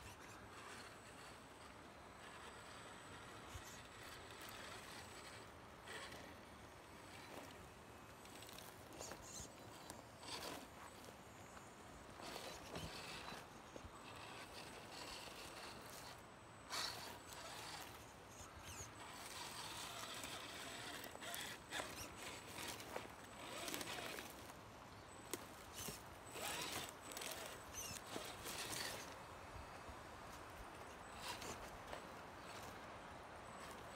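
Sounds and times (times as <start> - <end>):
rc crawler scrabbling on rocks: 0.0 - 33.9.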